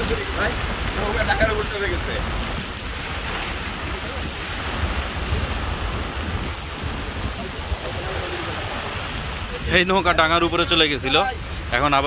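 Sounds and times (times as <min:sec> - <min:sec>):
heavy rain on river and boat: 0:00.0 - 0:12.0.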